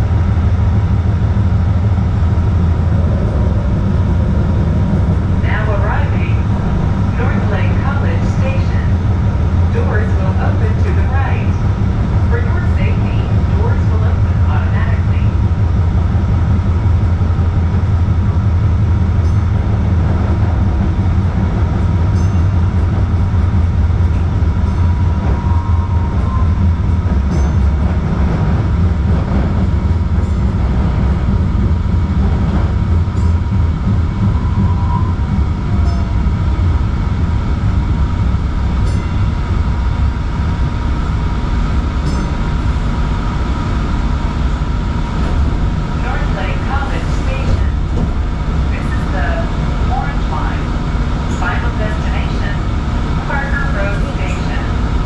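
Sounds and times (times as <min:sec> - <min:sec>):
light-rail car wheels rumbling: 0:00.0 - 0:55.0
thin steady hum: 0:00.0 - 0:55.0.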